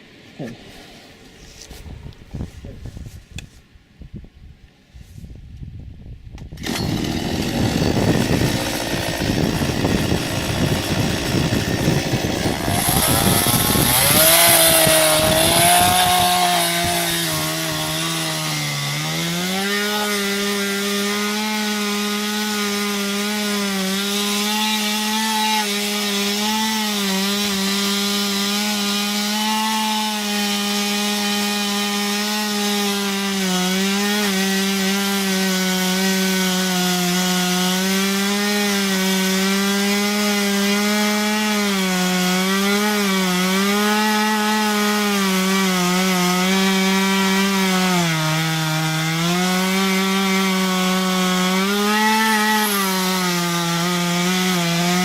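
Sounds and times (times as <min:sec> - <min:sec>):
chainsaw cutting wood: 0:06.4 - 0:55.0.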